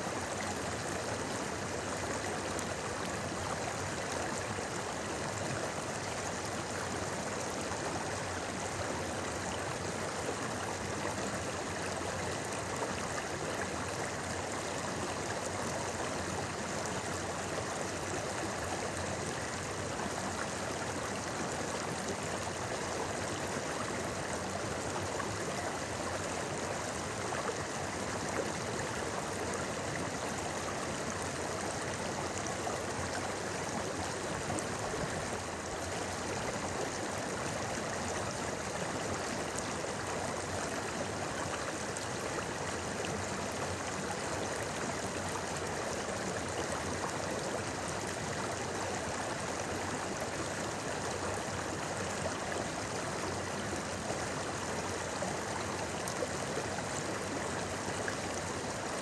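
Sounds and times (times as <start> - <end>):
river babbling over stones: 0.2 - 59.0.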